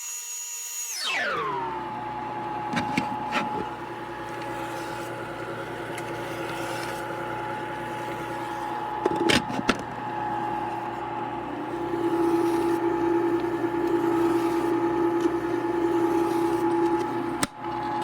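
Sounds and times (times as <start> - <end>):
ice cream maker motor hum: 0.0 - 18.0.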